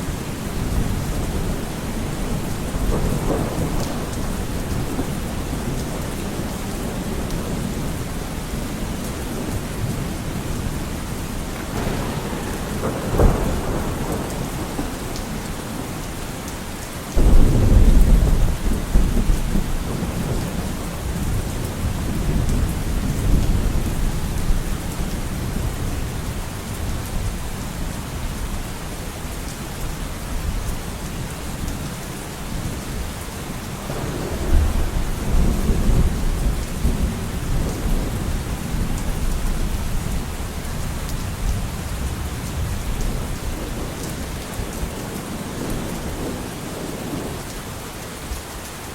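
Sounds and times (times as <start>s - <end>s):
low thunder rolls: 0.0s - 28.5s, 32.6s - 47.5s
steady rain falling: 0.0s - 48.9s.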